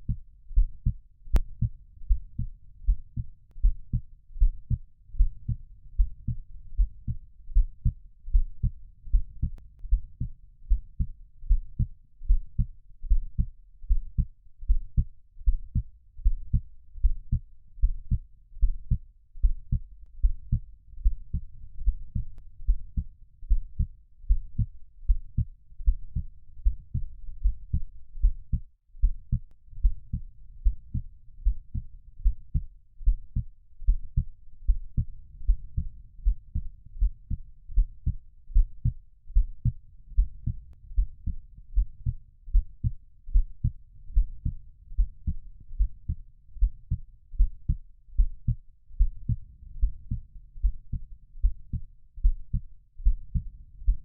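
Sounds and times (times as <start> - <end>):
faint low rumble: 0.0 - 54.0
heartbeat thumps: 0.0 - 54.0.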